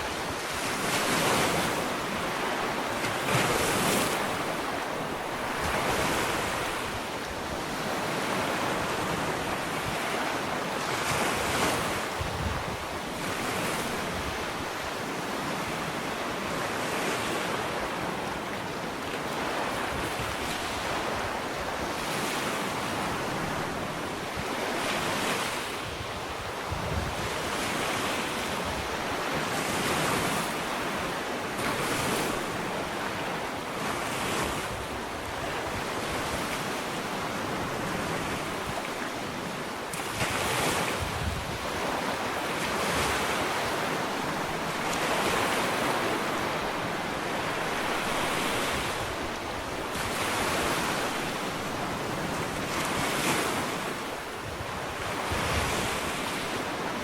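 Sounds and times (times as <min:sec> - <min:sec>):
wind on microphone: 0:00.0 - 0:18.2, 0:19.4 - 0:57.0
small waves washing onto beach: 0:00.0 - 0:57.0.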